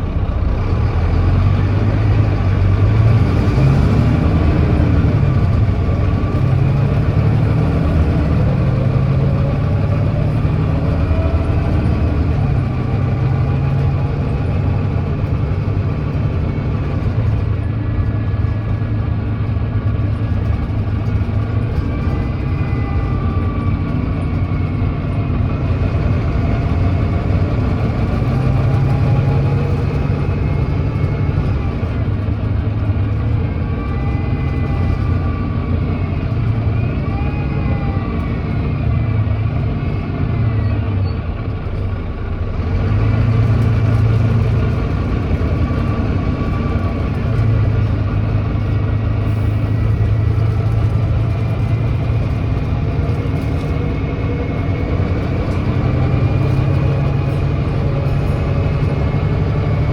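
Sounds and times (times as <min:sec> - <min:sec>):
bus diesel engine under way: 0:00.0 - 0:59.9.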